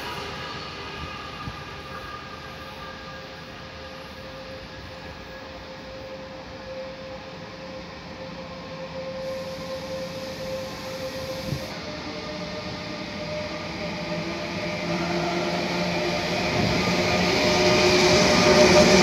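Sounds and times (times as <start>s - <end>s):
electric locomotive rumble and hum: 0.0s - 19.0s.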